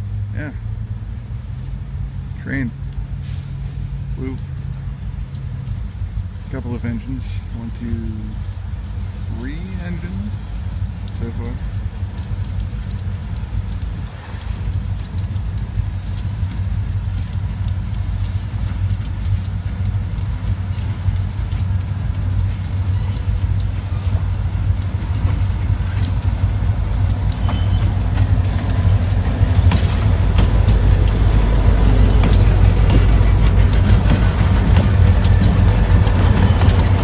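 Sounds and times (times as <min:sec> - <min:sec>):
diesel locomotive engine rumble: 0:00.0 - 0:37.0
train wheels clicking on rails: 0:01.4 - 0:37.0.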